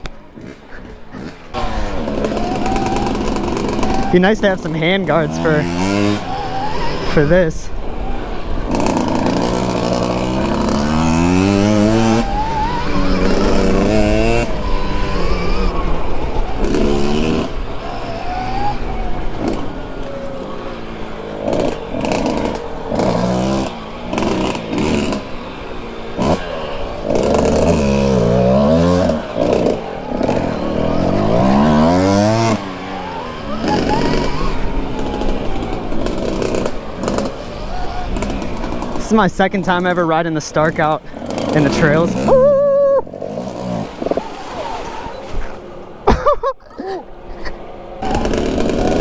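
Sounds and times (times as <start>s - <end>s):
dirt bike engine revving: 0.0s - 45.9s, 48.0s - 49.0s.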